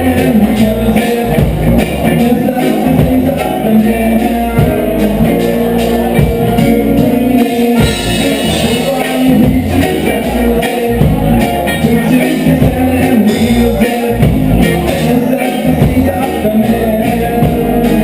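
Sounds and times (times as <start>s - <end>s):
bass line: 0.0s - 18.0s
person singing: 0.0s - 18.0s
reggae dub band playing: 0.0s - 18.0s.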